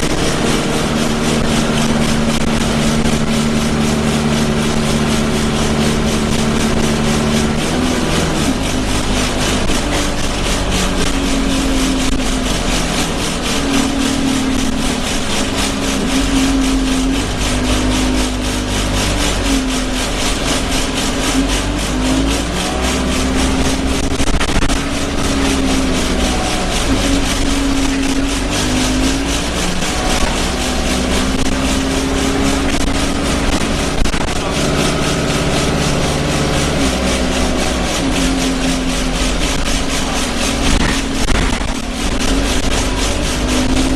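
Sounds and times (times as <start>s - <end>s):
bus engine and road noise: 0.0s - 43.9s
bus vibration noises: 0.0s - 43.9s
low hum: 0.0s - 43.9s.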